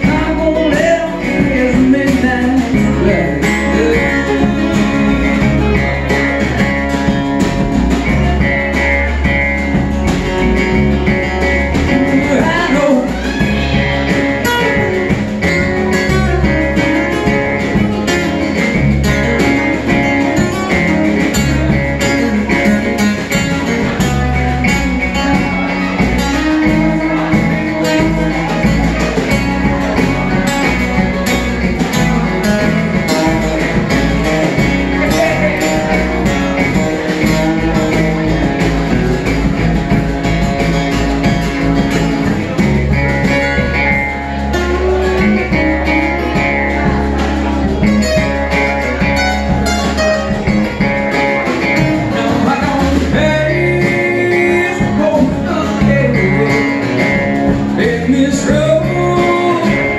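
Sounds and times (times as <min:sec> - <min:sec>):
acoustic guitars: 0:00.0 - 0:59.9
upright bass: 0:00.0 - 0:59.9.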